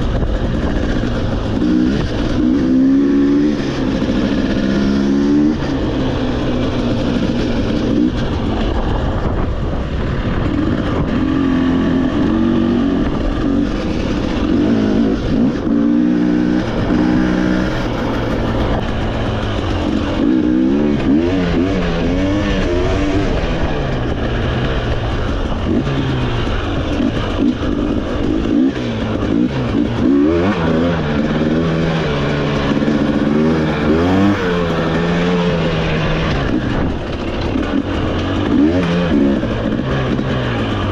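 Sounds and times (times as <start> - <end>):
off-road motorcycle engine revving: 0.0 - 40.9.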